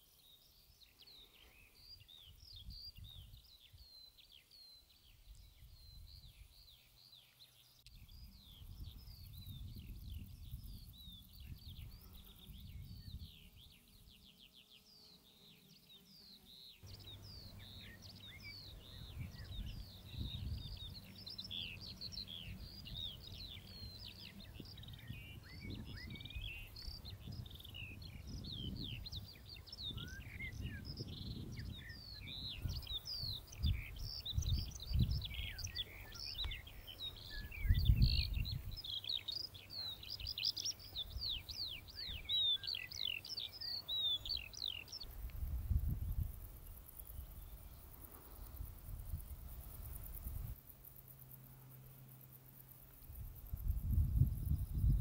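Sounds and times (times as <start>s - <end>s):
birds singing and chirping: 0.0s - 50.4s.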